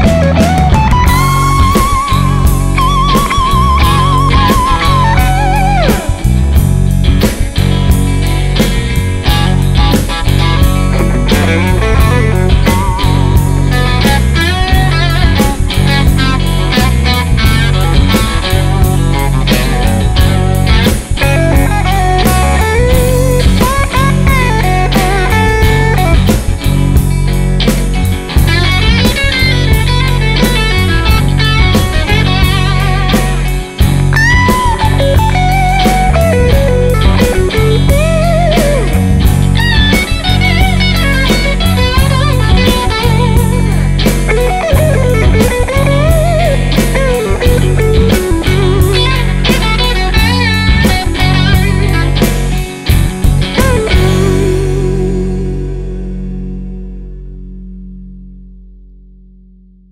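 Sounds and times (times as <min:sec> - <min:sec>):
blues-rock band: 0:00.0 - 0:58.0
lead electric guitar bent notes: 0:00.0 - 0:58.3.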